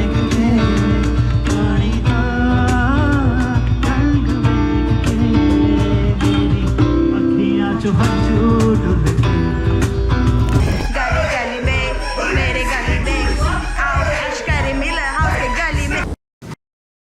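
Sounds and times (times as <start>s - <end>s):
steady drum beat: 0.0s - 7.2s, 7.9s - 16.2s
guitar: 0.0s - 16.2s
person singing: 0.0s - 16.2s.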